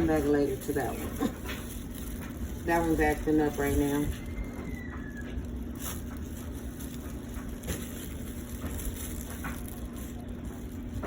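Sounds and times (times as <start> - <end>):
handling clicks and rustles: 0.0 - 11.0
low humming drone: 0.0 - 11.0.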